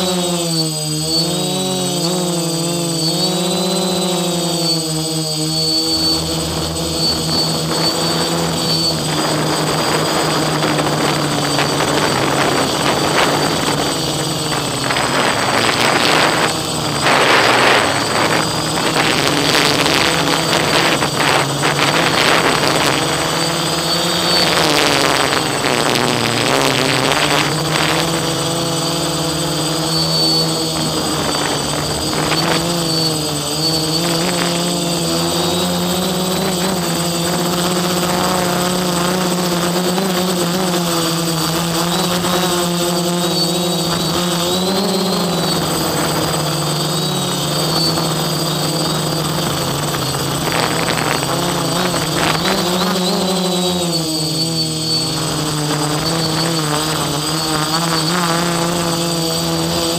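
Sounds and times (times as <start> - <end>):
quadcopter motors whining: 0.0 - 59.9.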